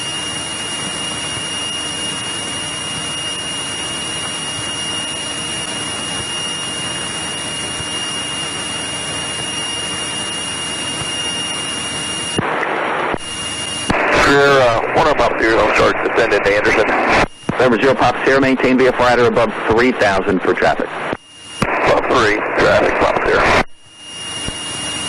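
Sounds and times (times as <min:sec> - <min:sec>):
airplane engine and airflow hiss: 0:00.0 - 0:25.0
high whine: 0:00.0 - 0:25.0
rush of noise: 0:00.0 - 0:25.0.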